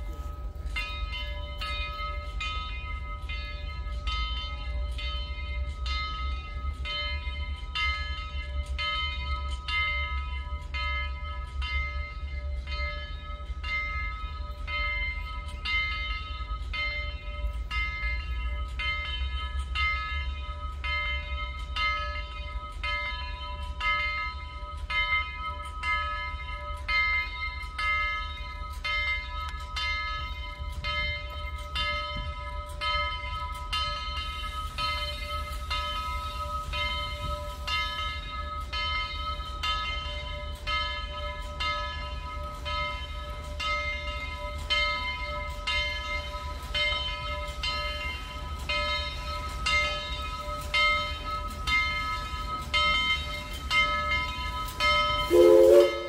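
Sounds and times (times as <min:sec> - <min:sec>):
steam locomotive bell ringing: 0:00.0 - 0:56.0.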